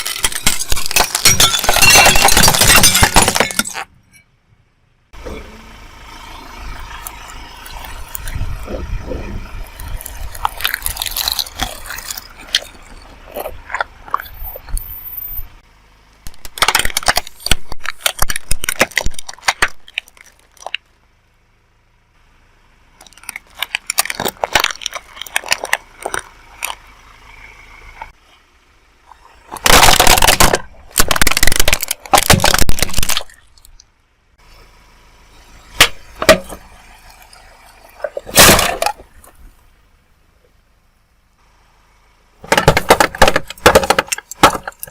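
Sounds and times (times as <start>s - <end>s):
objects crunching under tyre: 0.0s - 4.2s, 6.1s - 21.6s, 22.8s - 34.1s, 35.4s - 39.9s, 41.9s - 44.9s
rolling car rumble: 0.0s - 44.9s.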